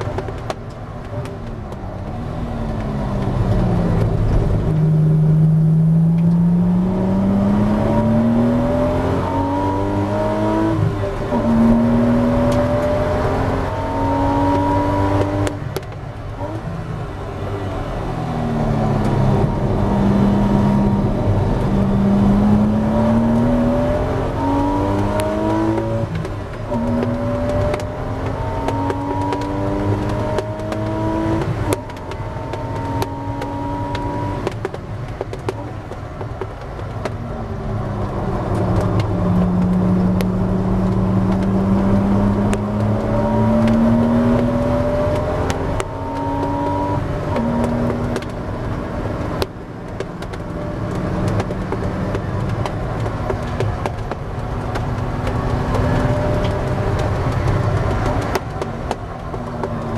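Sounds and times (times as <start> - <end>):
race car engine accelerating: 2.1 - 15.7, 17.4 - 34.7, 37.5 - 59.9.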